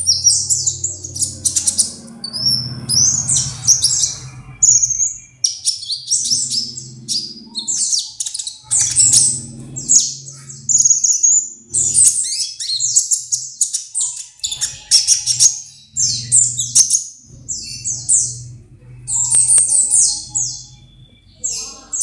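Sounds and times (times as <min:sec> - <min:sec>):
songbird chirping and trilling: 0:00.0 - 0:22.0.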